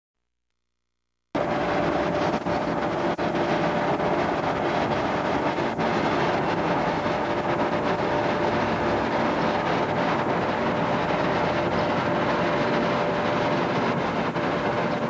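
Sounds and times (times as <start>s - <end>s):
construction machinery drone: 1.4s - 15.0s.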